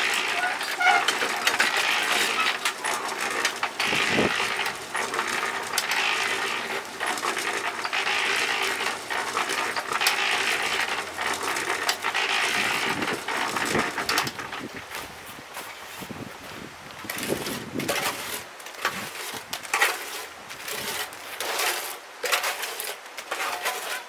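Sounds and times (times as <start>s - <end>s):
gritty rattling and scraping: 0.0s - 24.0s.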